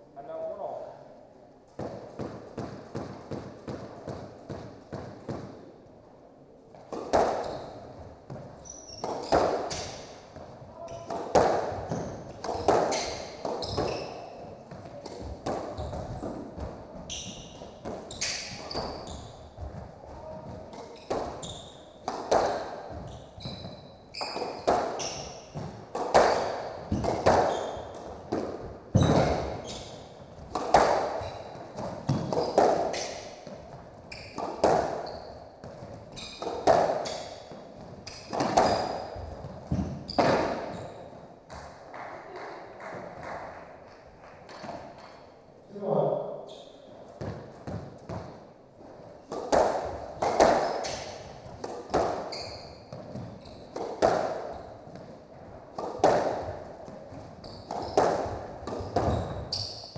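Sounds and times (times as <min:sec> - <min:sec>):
squash ball hitting rackets and walls: 0:01.7 - 0:05.9, 0:06.7 - 0:45.5, 0:46.5 - 0:59.9
shoes squeaking on hardwood floor: 0:06.8 - 0:41.8, 0:46.4 - 0:59.9.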